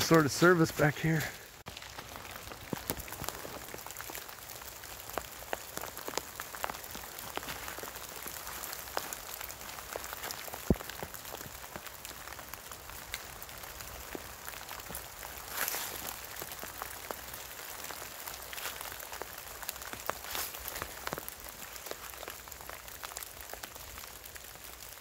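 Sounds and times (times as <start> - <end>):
rain falling steadily: 0.0 - 25.0.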